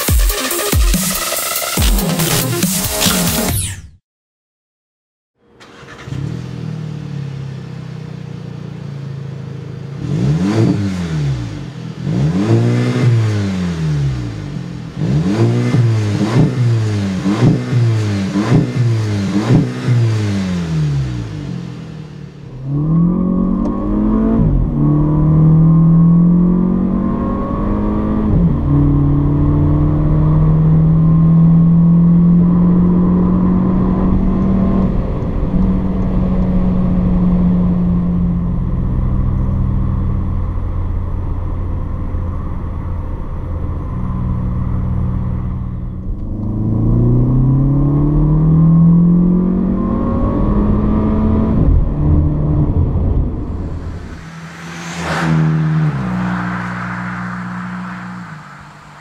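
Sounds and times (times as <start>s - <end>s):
car engine revving: 5.5s - 40.2s, 43.4s - 59.0s
car engine accelerating with upshifts: 5.5s - 59.0s.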